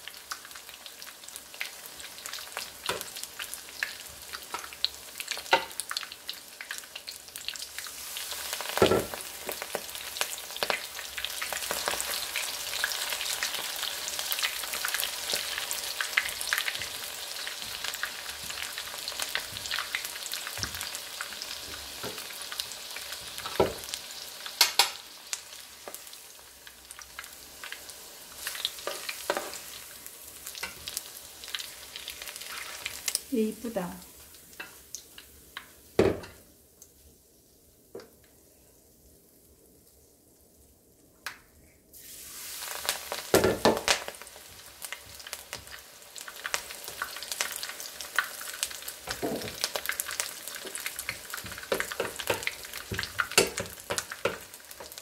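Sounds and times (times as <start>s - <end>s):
food sizzling in hot oil: 0.0s - 38.1s, 41.9s - 55.0s.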